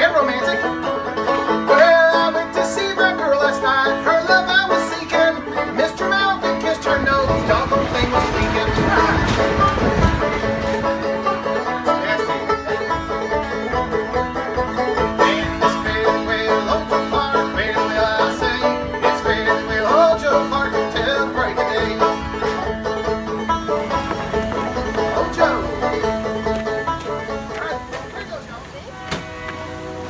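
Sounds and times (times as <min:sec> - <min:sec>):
bluegrass banjo and guitar music: 0:00.0 - 0:28.7.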